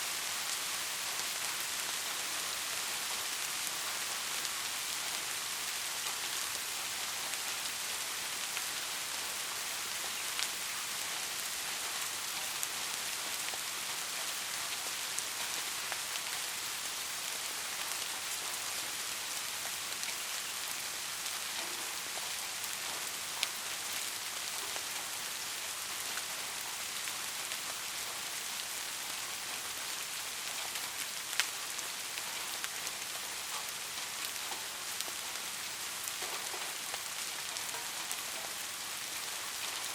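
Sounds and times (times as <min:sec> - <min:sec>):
soft steady rain: 0:00.0 - 0:39.9.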